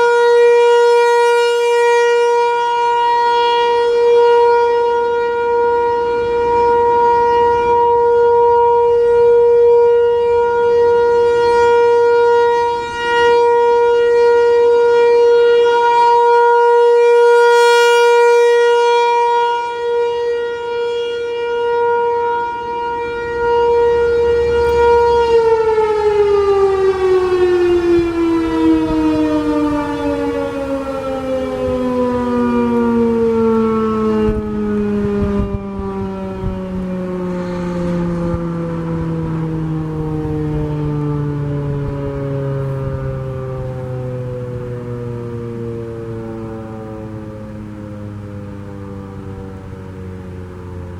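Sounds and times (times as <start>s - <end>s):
warning siren steady tone: 0.0s - 50.9s.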